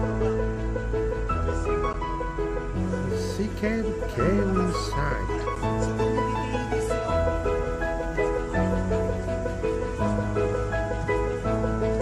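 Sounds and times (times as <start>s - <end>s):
light instrumental melody: 0.0s - 12.0s.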